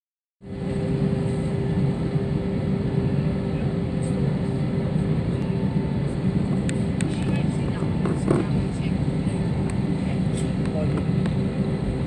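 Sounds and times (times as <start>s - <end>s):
aircraft cabin hum: 0.5s - 12.0s.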